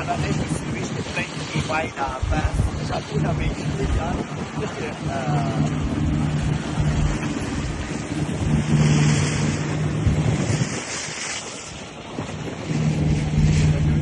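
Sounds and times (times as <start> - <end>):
low engine hum: 0.0 - 14.0
rushing water: 0.0 - 14.0
wind buffeting microphone: 0.0 - 14.0.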